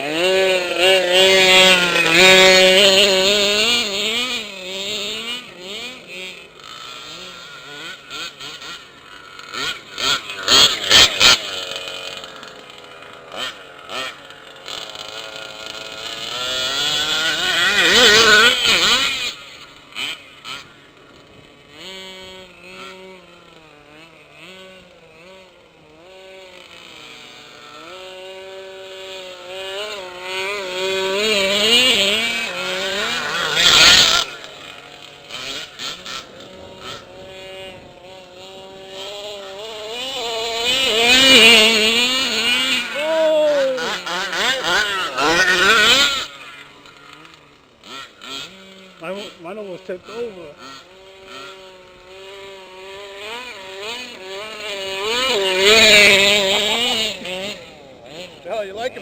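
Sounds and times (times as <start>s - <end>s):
small engines revving: 0.0s - 59.0s.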